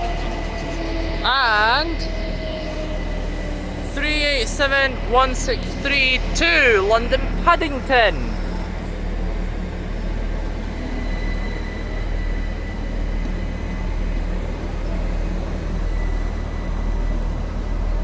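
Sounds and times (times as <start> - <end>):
high train whine: 0.0 - 18.0
train arriving rumble: 0.0 - 18.0.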